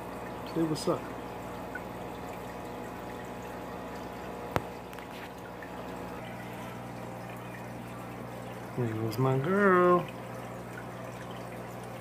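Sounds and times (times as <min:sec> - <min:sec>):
aquarium filter water trickling: 0:00.0 - 0:12.0.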